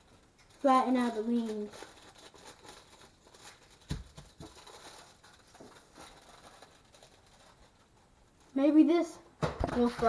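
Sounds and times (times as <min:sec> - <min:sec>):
foil rustling: 0:00.0 - 0:09.0.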